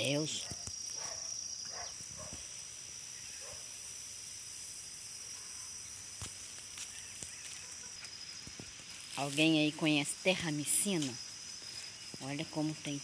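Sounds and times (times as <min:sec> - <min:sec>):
faint hiss: 0:00.0 - 0:13.0
insects droning: 0:00.0 - 0:13.0.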